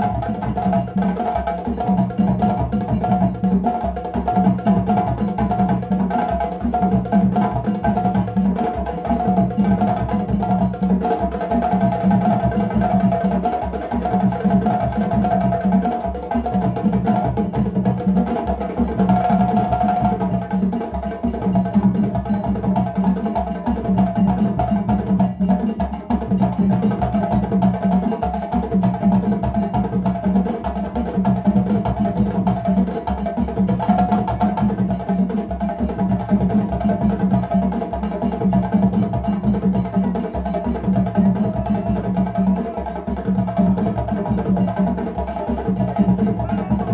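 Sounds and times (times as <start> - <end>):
djembes drumming: 0.0 - 46.9.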